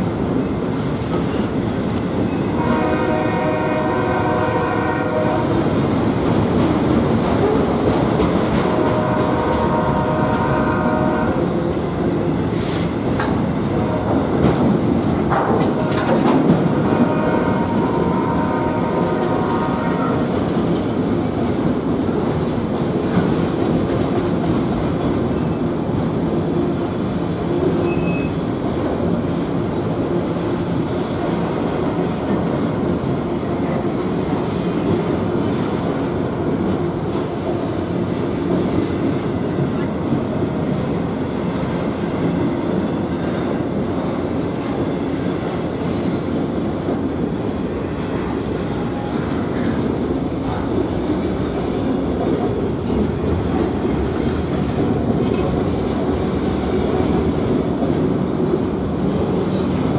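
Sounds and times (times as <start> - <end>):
freight train rumbling on rails: 0.0 - 59.9.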